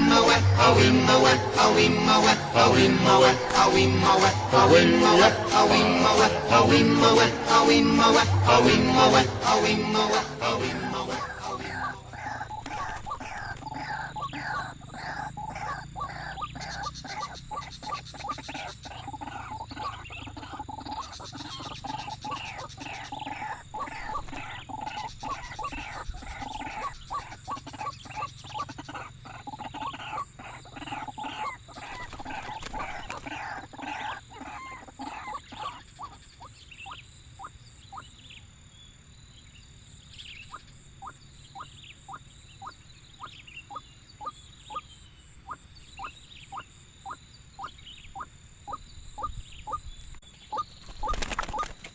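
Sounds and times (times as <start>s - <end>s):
waterhens calling: 0.0s - 38.2s, 40.2s - 51.9s
high insect drone: 0.0s - 51.9s.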